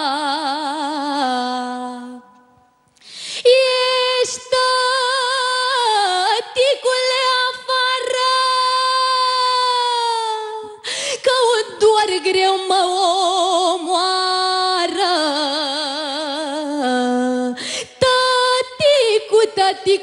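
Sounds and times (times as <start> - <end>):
woman singing wordless lament: 0.0 - 2.3, 3.4 - 20.0.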